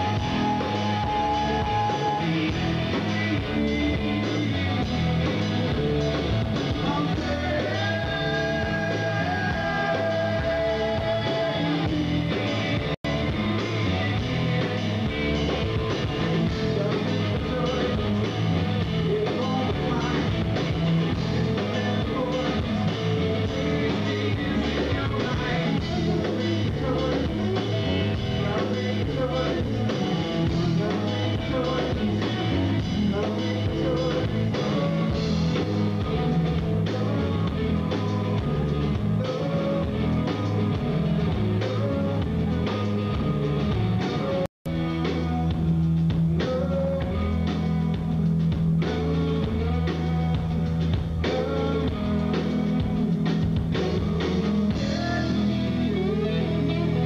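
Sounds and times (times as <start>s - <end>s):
bass: 0.0s - 57.0s
distorted electric guitars: 0.0s - 57.0s
drums: 0.0s - 57.0s
person singing: 0.0s - 57.0s.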